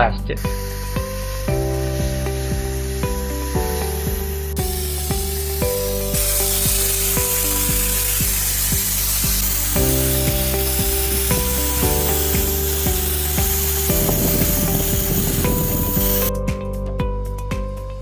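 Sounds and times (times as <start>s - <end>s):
sandblaster gun hissing: 0.0s - 16.3s
background music with steady beat: 0.0s - 18.0s.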